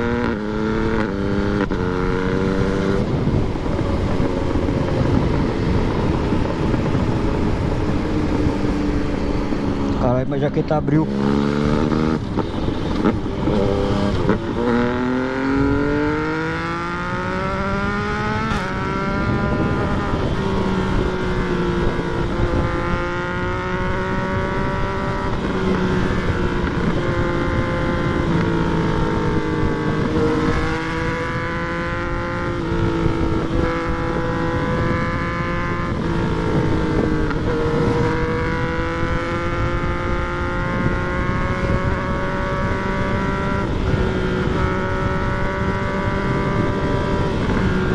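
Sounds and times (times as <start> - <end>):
motorcycle engine accelerating: 0.0 - 47.9
wind noise: 0.0 - 47.9.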